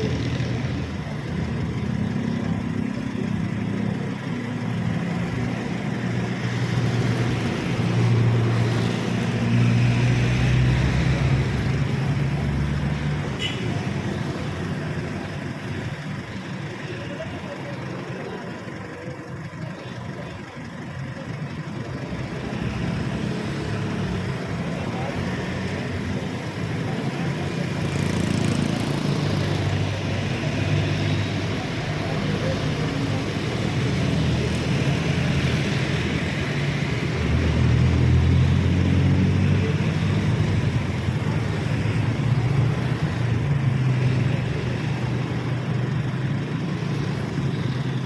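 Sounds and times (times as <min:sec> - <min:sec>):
road noise: 0:00.0 - 0:48.0
vehicle engine humming: 0:00.0 - 0:48.0.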